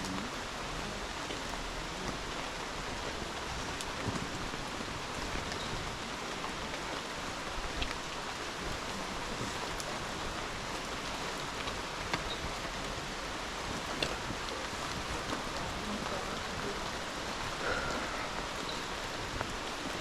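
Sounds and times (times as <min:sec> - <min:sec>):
raindrops ticking: 0:00.0 - 0:20.0
steady rain hiss: 0:00.0 - 0:20.0.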